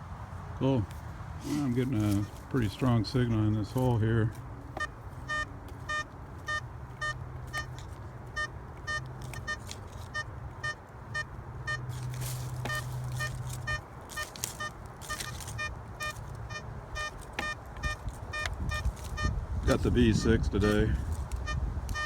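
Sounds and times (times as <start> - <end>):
metal detector beeping: 1.6 - 22.0.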